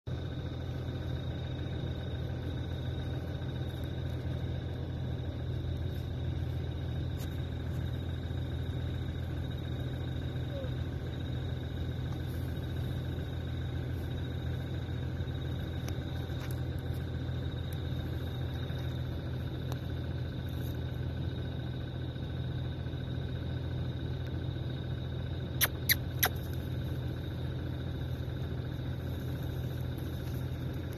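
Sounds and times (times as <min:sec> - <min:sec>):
vehicle engine idling: 0:00.1 - 0:30.9.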